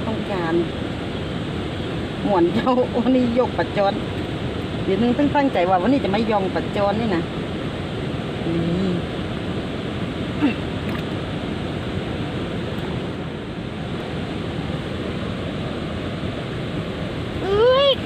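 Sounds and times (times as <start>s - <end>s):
river water rushing over weir: 0.0s - 18.0s.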